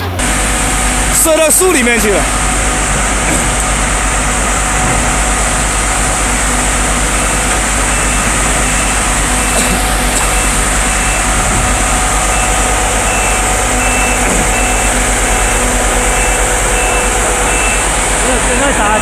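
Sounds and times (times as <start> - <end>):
fan blowing: 0.0 - 19.0
low engine hum: 0.0 - 19.0.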